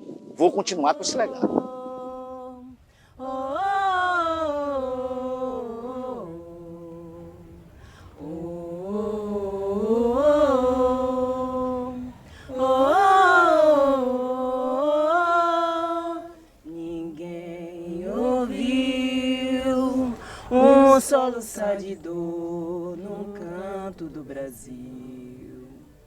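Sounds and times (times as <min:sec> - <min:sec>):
person singing unaccompanied: 0:00.5 - 0:26.0.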